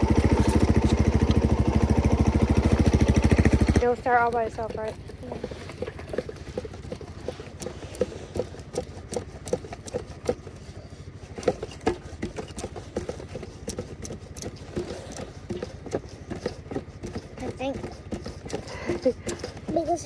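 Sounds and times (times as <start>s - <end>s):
engine clattering: 0.0s - 20.0s.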